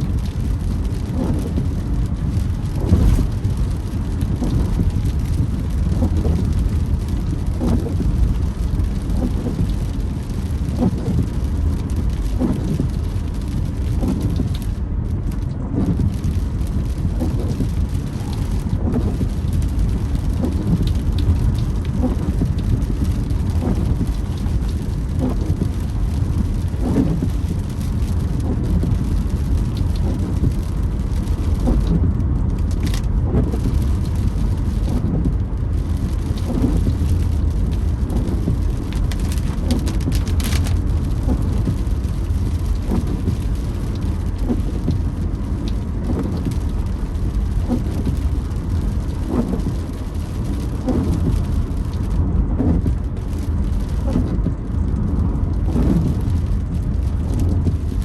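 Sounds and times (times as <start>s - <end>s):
rain on car body: 0.0s - 58.0s
road and engine rumble: 0.0s - 58.0s
windshield wipers creaking: 0.2s - 58.0s.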